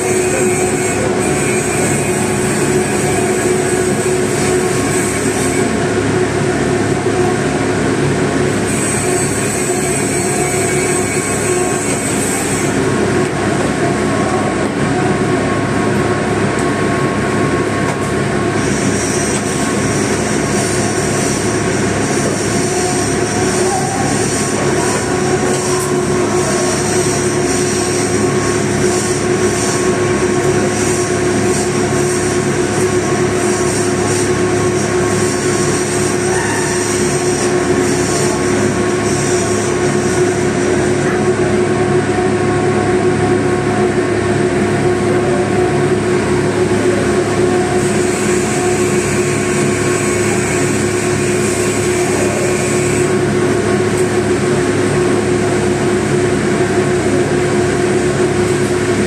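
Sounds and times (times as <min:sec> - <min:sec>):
mechanical hum with hiss: 0:00.0 - 0:59.0.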